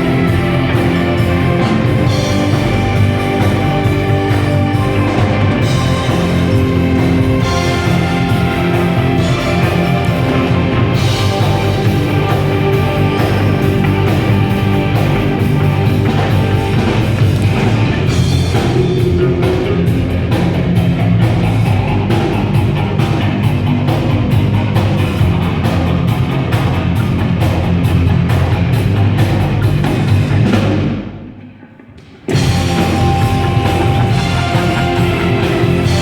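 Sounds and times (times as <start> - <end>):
live rock band playing: 0.0 - 31.0, 32.3 - 36.0.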